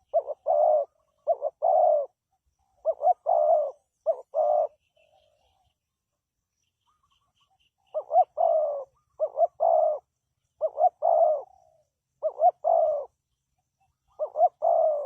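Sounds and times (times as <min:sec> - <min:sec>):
dove cooing: 0:00.0 - 0:05.8, 0:06.9 - 0:15.0.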